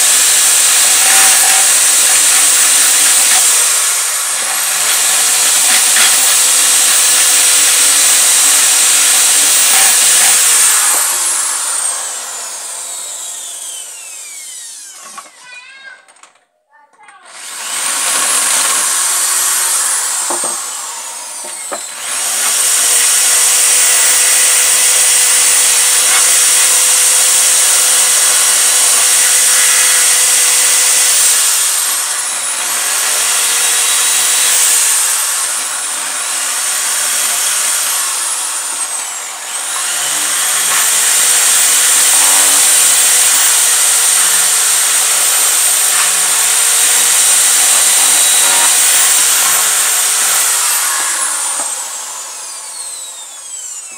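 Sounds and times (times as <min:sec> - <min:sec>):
electric drill boring wood: 0:00.0 - 0:16.3, 0:17.3 - 0:53.9.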